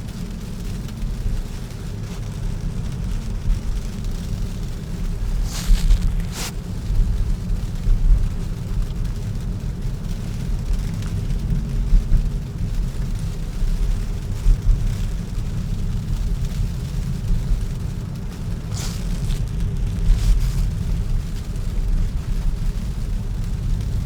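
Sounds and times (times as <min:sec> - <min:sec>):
tyre and road noise: 0:00.0 - 0:24.0.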